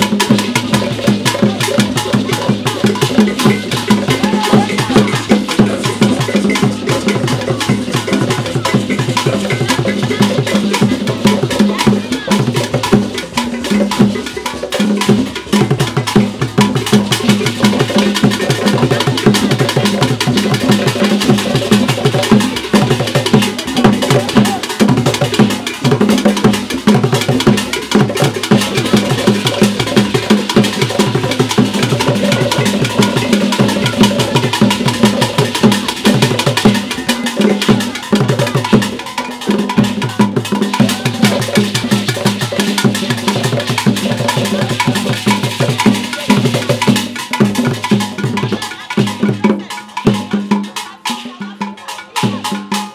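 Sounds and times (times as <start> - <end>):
fast drumming and percussion: 0.0 - 52.9.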